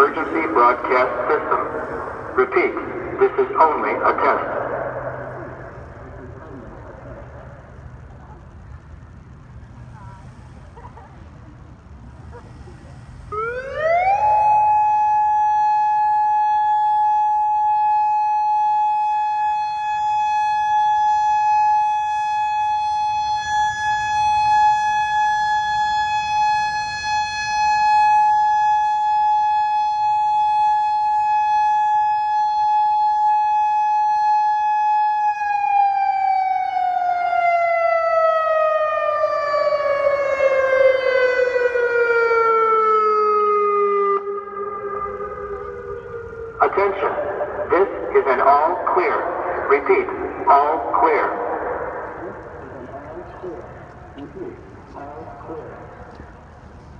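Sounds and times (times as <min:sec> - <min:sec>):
warning siren: 0:00.0 - 0:11.1, 0:12.0 - 0:56.9.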